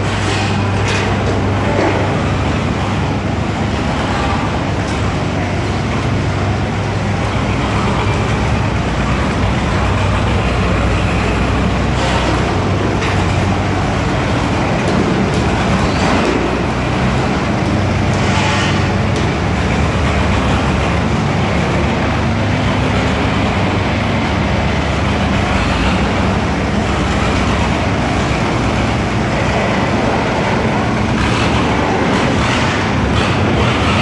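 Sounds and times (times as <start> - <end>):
road roller engine running: 0.0 - 34.0.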